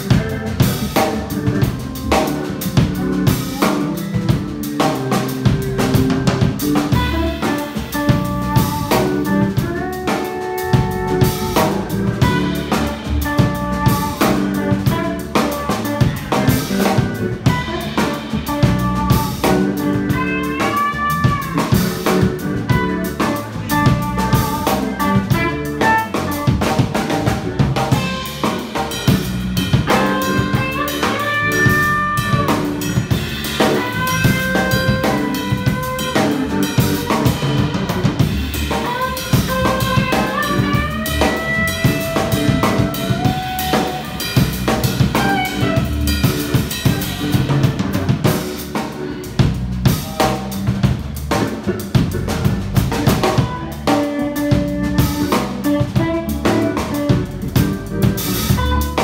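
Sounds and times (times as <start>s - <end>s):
drum kit beat: 0.0s - 59.0s
electric bass: 0.0s - 59.0s.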